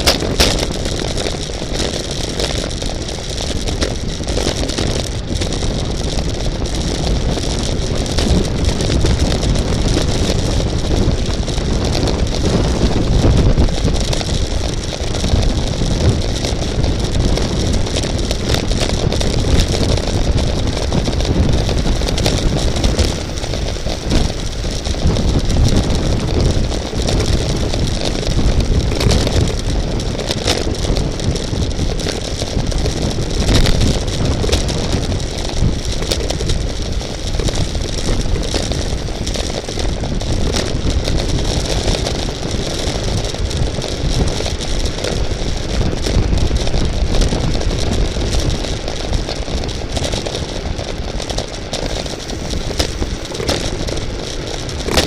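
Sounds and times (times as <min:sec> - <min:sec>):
bicycle clicks and rattles: 0:00.0 - 0:55.0
road rumble: 0:00.0 - 0:55.0
wind buffeting microphone: 0:00.0 - 0:55.0.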